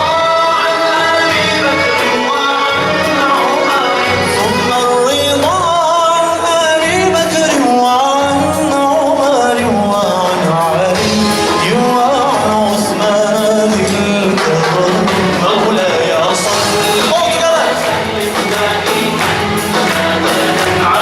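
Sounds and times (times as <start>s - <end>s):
instrumental accompaniment: 0.0s - 21.0s
person singing: 0.0s - 21.0s.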